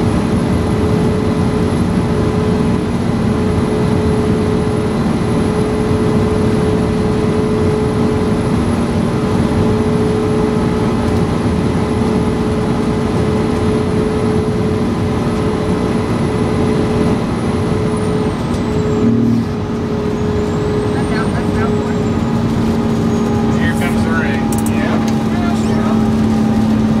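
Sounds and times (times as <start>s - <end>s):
fire engine droning: 0.0s - 27.0s.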